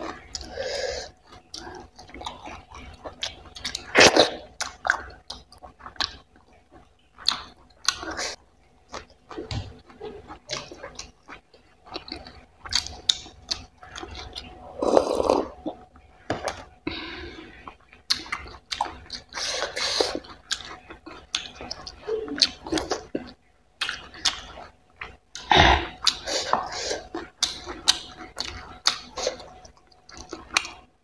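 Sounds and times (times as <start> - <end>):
wet chewing mouth sounds: 1.2 - 30.9.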